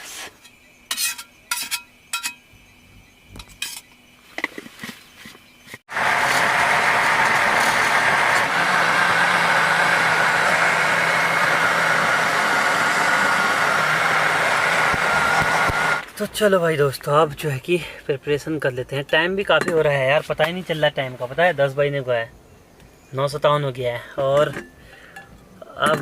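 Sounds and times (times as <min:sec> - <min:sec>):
loud steady outdoor noise: 0:00.0 - 0:26.0.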